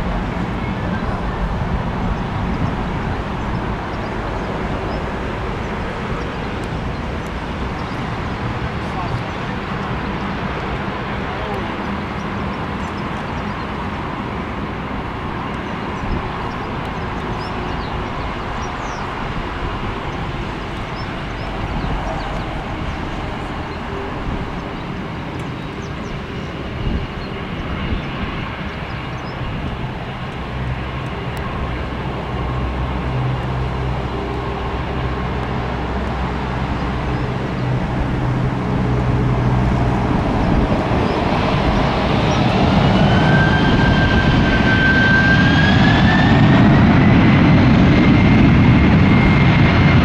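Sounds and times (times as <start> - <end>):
jet engines at take-off thrust: 0.0 - 50.0.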